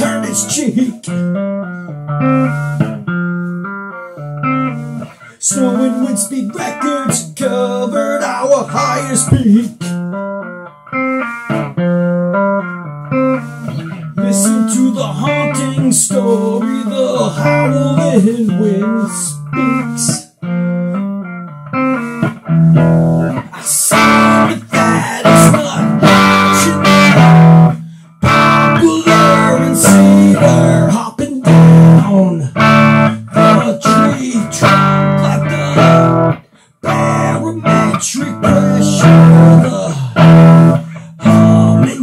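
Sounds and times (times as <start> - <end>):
picked guitar notes with bends: 0.0 - 42.0
strummed guitar chords: 0.0 - 42.0.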